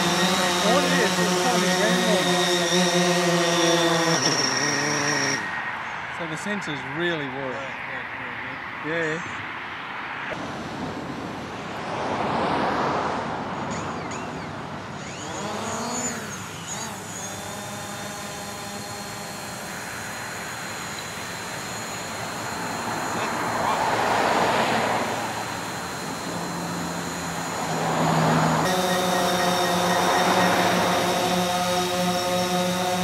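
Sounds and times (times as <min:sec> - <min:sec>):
multi-tone propeller hum: 0:00.0 - 0:09.4, 0:10.2 - 0:33.0
drone propellers whining: 0:00.0 - 0:33.0.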